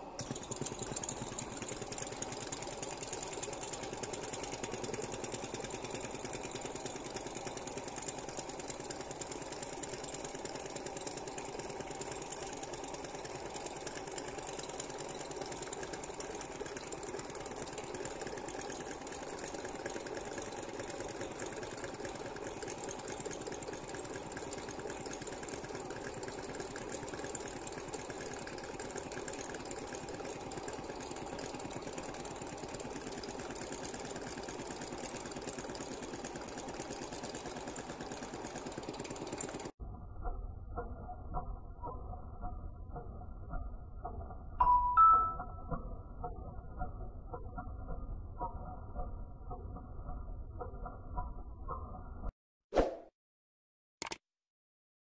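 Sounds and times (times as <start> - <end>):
hot air engine rattling: 0.0 - 51.8.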